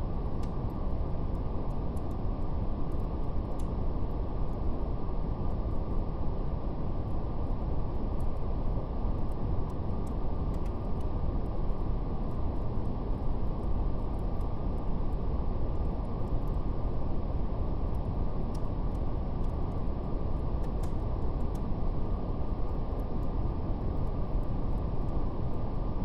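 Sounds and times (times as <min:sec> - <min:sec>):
brown noise rumble: 0:00.0 - 0:26.0
faint fire crackle: 0:00.0 - 0:26.0.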